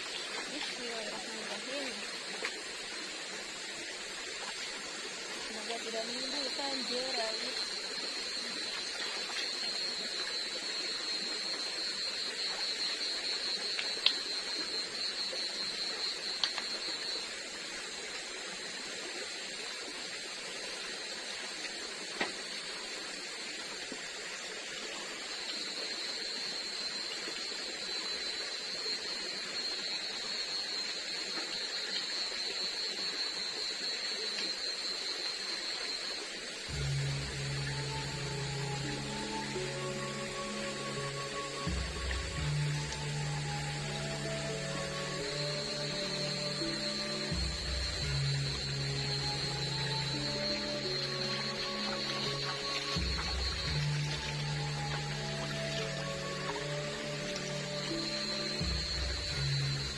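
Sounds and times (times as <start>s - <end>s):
even hiss: 0.0s - 59.9s
high-pitched insect drone: 0.0s - 59.9s.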